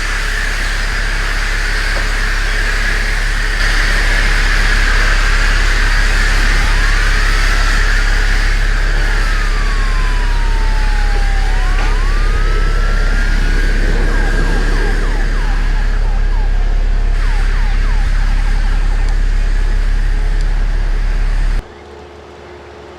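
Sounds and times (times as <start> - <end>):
emergency vehicle siren: 0.0 - 21.8
loud steady low hum: 0.0 - 22.9.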